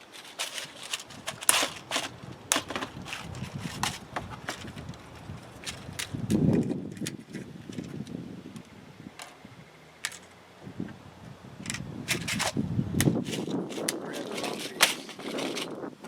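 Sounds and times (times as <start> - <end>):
wire and connectors handled: 0.0 - 9.4, 10.0 - 10.4, 11.6 - 15.9.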